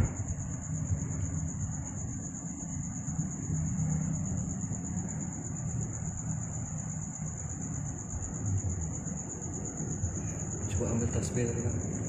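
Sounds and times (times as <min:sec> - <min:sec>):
crickets trilling: 0:00.0 - 0:12.0
low steady rumble: 0:00.0 - 0:12.0.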